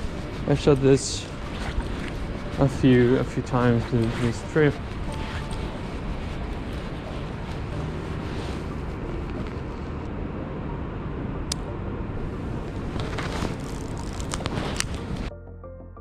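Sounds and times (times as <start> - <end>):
outdoor city ambience: 0.0 - 16.0
soft background music: 0.0 - 16.0.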